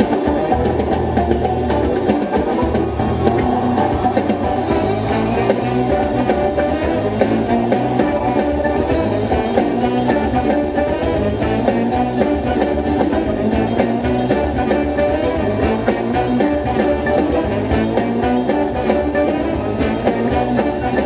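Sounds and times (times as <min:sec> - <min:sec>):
rock music through car stereo: 0:00.0 - 0:21.0.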